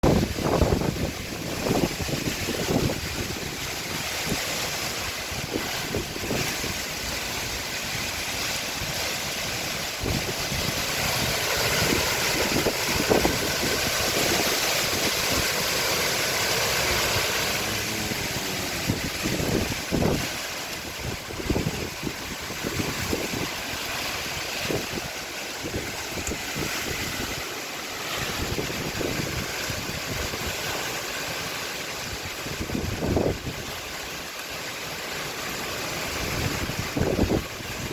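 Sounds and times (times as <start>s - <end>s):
strong wind rushing: 0.0s - 30.8s, 32.0s - 33.8s, 36.1s - 37.9s
wind buffeting microphone: 0.0s - 34.2s, 35.9s - 37.9s.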